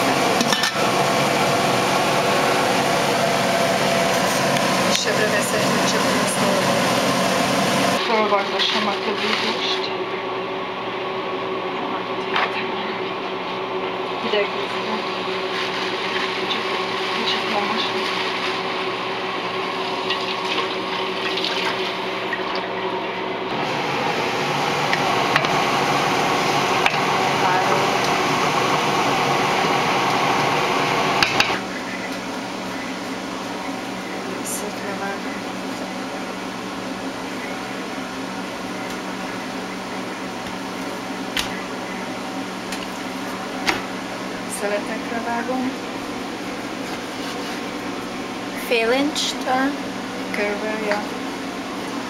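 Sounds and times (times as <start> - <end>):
fan hum: 0.0 - 52.0.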